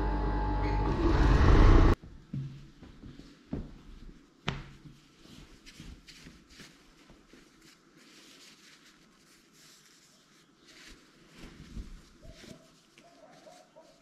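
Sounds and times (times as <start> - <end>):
knit fabric rustling: 2.7 - 14.0.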